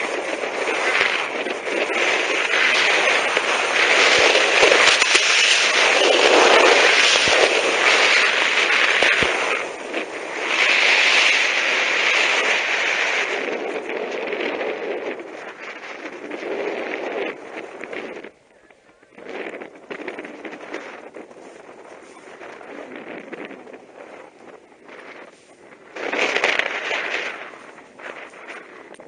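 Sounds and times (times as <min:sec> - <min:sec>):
skis scraping over hard snow: 0:00.0 - 0:18.3, 0:19.3 - 0:29.0.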